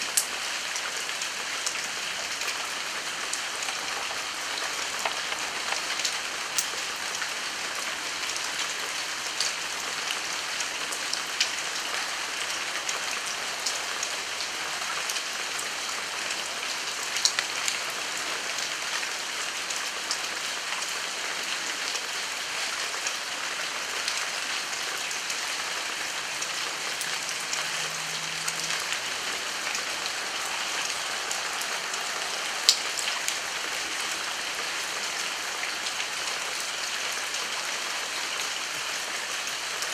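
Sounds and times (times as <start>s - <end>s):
raindrops ticking close by: 0.0s - 22.3s, 24.0s - 39.9s
heavy rain hissing: 0.0s - 39.9s.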